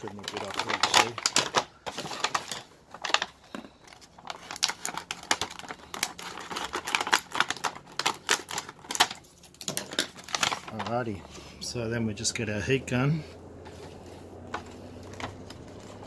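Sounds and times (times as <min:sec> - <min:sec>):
thin plastic crinkling: 0:00.0 - 0:11.6, 0:13.6 - 0:16.0.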